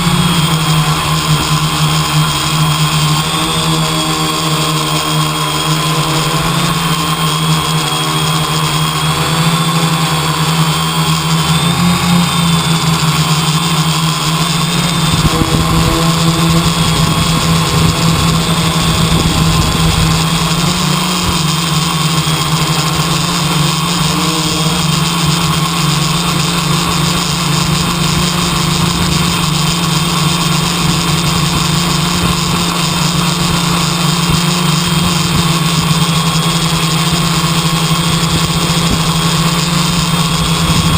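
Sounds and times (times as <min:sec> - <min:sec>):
engine humming steadily: 0:00.0 - 0:40.9.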